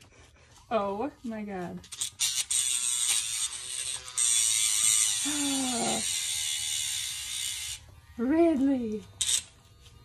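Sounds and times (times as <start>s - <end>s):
electric nail grinder whirring: 1.8s - 10.0s.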